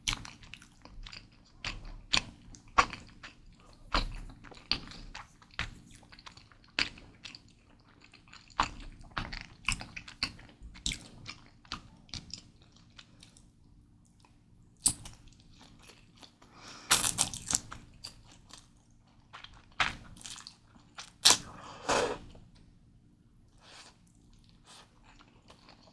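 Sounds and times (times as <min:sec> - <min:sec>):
chewing crunchy noodles: 0:00.0 - 0:22.4, 0:23.6 - 0:25.9.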